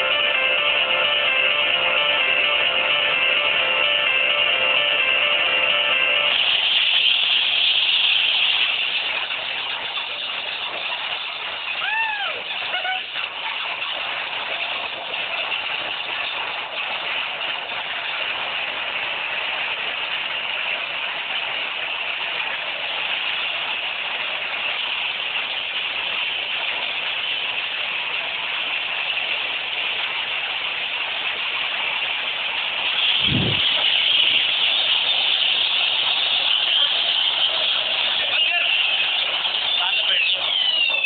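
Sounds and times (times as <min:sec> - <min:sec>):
washing machine running: 0:00.0 - 0:41.0.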